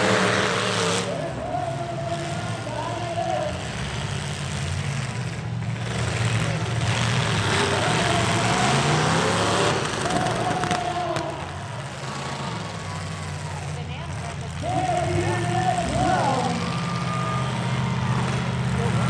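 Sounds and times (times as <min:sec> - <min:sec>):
pickup truck engines running: 0:00.0 - 0:19.0.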